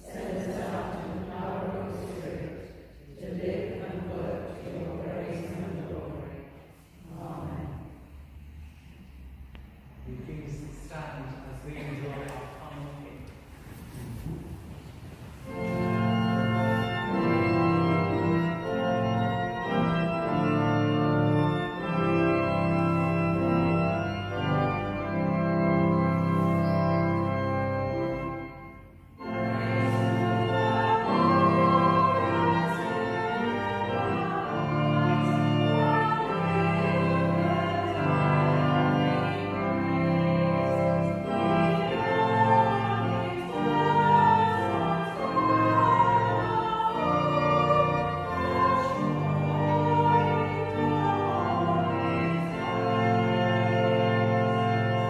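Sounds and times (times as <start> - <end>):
church organ playing a hymn: 0.0 - 9.2, 10.0 - 55.0.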